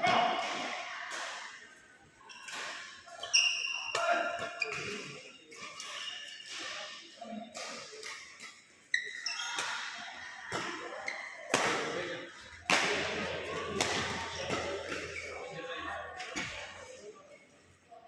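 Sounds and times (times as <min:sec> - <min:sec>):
indistinct voices in echoing room: 0:00.0 - 0:18.0.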